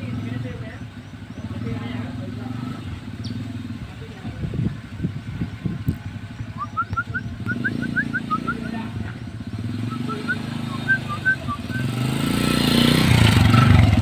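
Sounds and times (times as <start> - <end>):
bird chirping: 0.0 - 3.8, 5.4 - 13.0
vehicle engine drone: 0.0 - 14.0.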